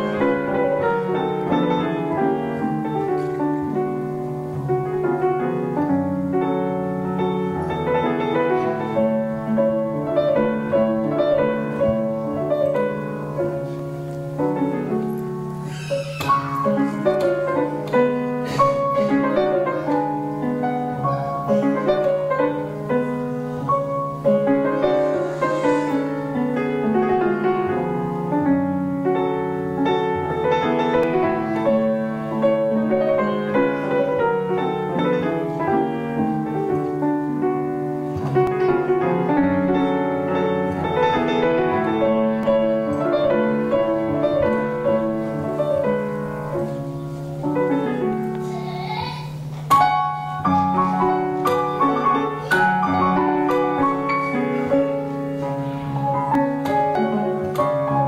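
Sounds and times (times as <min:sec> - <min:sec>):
solo classical piano: 0:00.0 - 0:58.0.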